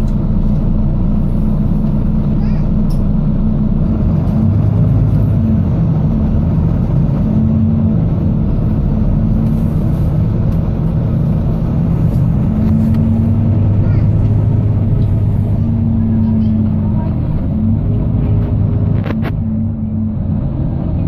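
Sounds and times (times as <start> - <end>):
bus engine droning: 0.0 - 21.0.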